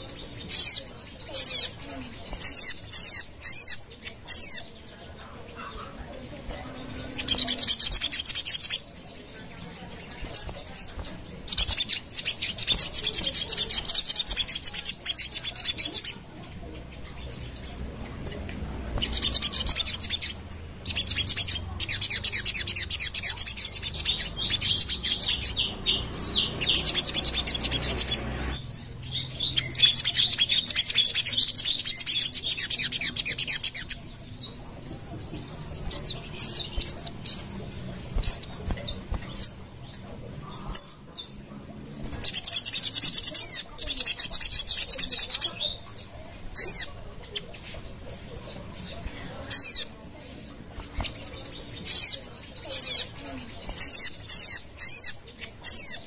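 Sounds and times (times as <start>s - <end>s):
bird chirping trills: 0.0s - 56.0s.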